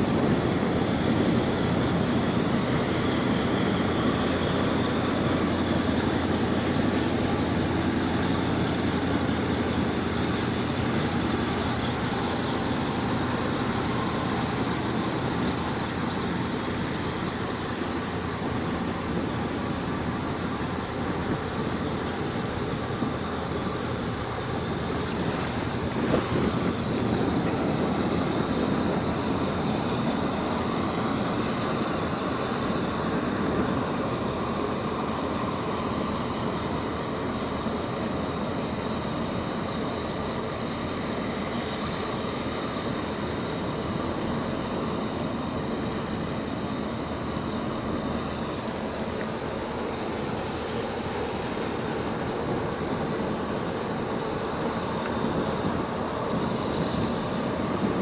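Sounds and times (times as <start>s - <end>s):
ship engines rumbling: 0.0s - 58.0s
wind noise on microphone: 0.0s - 58.0s.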